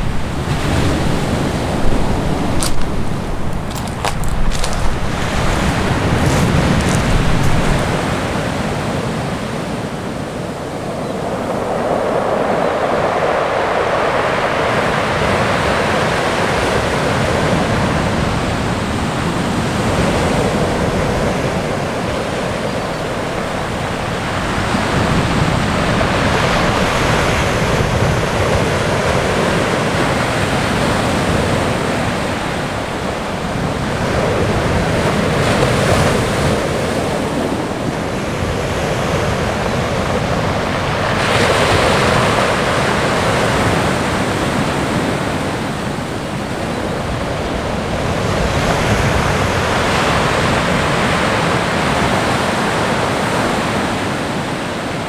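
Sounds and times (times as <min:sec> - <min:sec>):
surf breaking on shore: 0:00.0 - 0:55.0.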